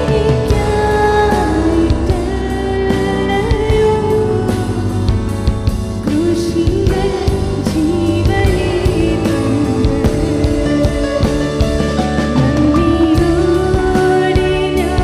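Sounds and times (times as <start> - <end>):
band with bass and drums: 0.0 - 15.0
woman singing into a microphone: 0.0 - 15.0.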